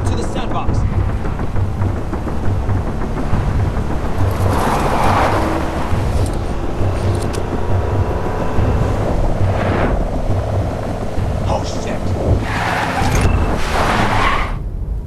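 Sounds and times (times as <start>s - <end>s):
vehicles passing by: 0.0s - 14.6s
car engine rumble: 0.0s - 15.0s.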